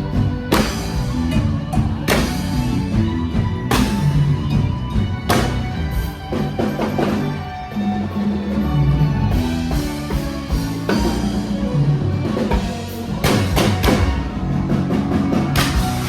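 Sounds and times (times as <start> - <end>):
bass line: 0.0 - 16.0
drum kit: 0.0 - 16.0.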